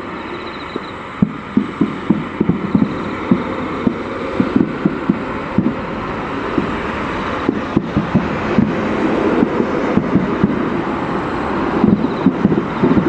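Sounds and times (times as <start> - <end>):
firework shells bursting: 0.5 - 13.0
low rumble of booms: 1.2 - 13.0.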